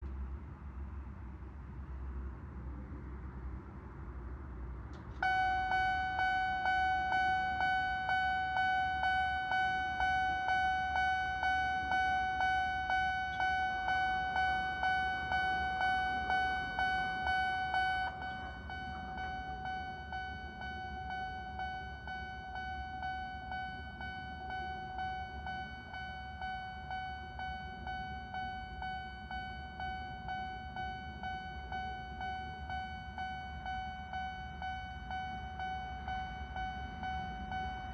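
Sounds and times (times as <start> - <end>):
level crossing bell clanging: 5.2 - 37.9.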